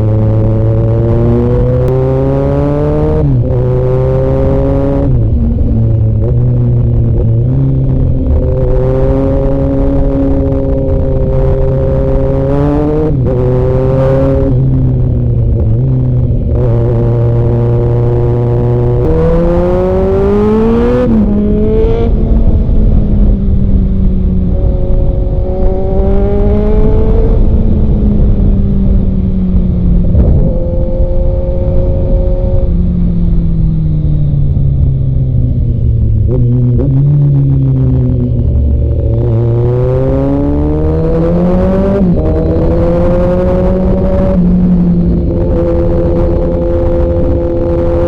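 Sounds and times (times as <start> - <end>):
motorcycle engine revving: 0.0 - 48.0
wind or road noise: 0.0 - 48.0.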